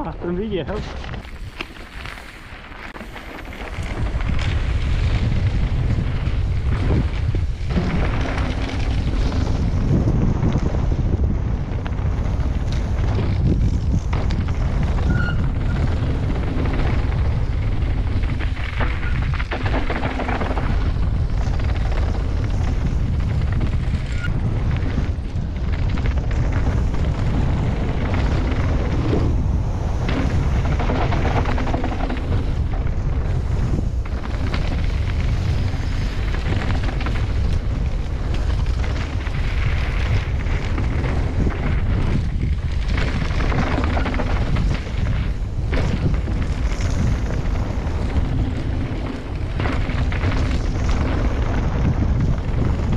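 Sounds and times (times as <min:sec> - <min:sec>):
bike knocking and rattling: 0:00.0 - 0:52.9
wind buffeting microphone: 0:00.0 - 0:52.9.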